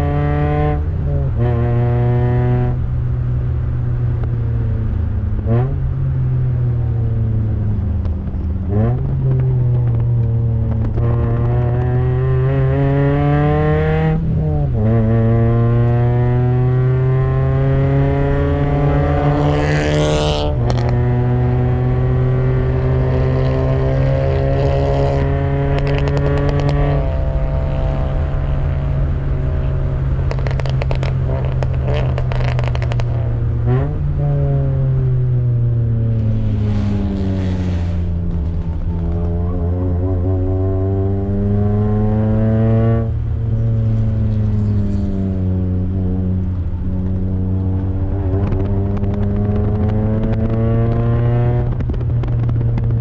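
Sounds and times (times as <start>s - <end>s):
race car engine revving: 8.3s - 34.9s, 36.1s - 53.0s.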